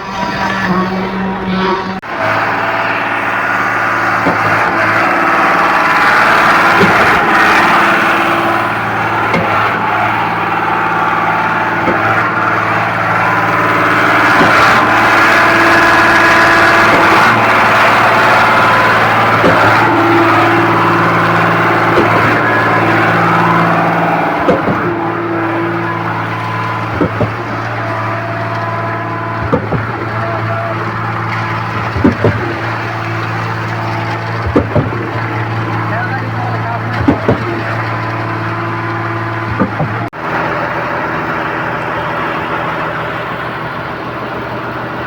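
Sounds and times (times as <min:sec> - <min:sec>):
concrete pump engine running: 0:00.0 - 0:45.0
pump piston knock: 0:04.0 - 0:40.1.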